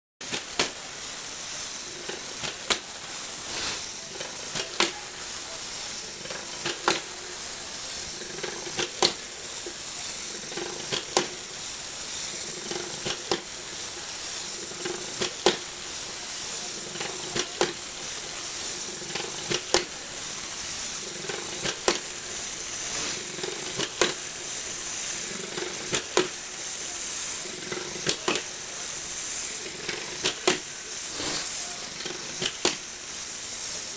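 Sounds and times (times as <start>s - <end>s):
small electric motor whirring: 0.3s - 33.9s.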